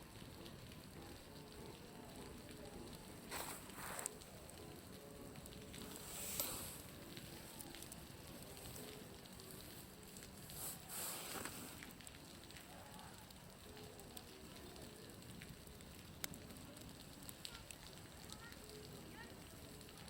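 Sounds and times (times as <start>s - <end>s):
meltwater dripping off roof: 0.0s - 20.0s.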